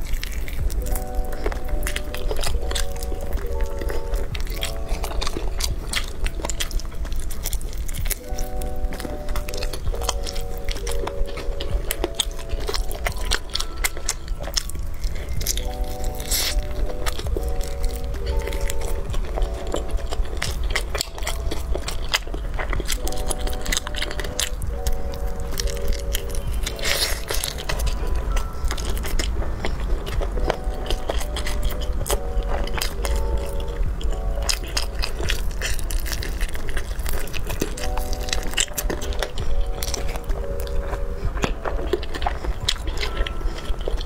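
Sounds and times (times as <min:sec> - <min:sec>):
biting and chewing: 0:00.0 - 0:44.0.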